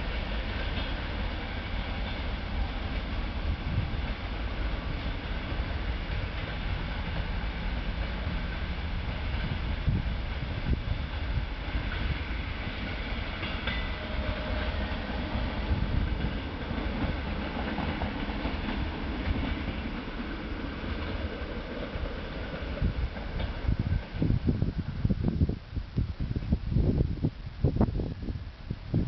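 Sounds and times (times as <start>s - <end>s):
clickety-clack over rail joints: 0.0s - 24.4s
train wheels rumbling: 0.0s - 28.3s.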